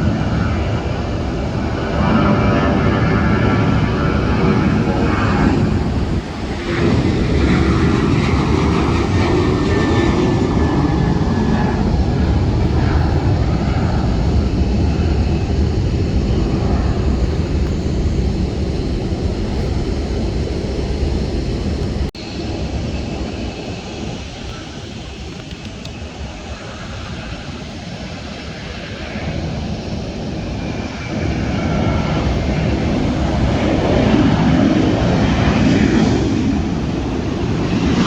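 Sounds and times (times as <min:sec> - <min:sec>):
jet airliner engines: 0:00.0 - 0:38.0.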